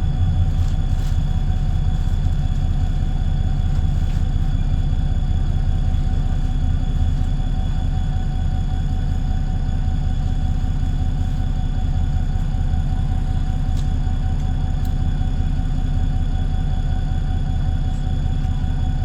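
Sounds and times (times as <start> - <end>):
bus engine drone: 0.0 - 19.0
constant whine: 0.0 - 19.0.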